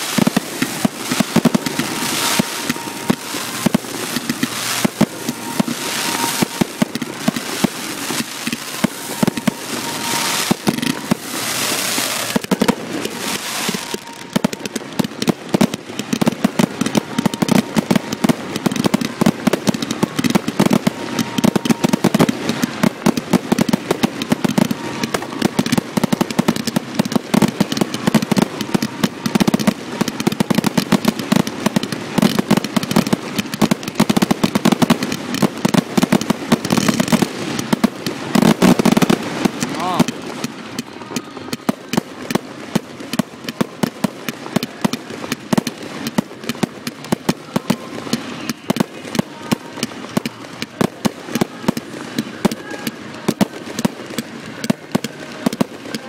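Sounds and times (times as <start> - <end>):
fireworks bursting: 0.0 - 56.0
fireworks hissing: 0.0 - 56.0.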